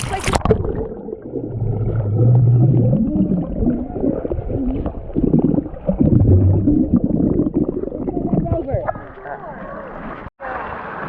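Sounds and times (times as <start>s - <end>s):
muffled watery pool sound: 0.0s - 11.0s.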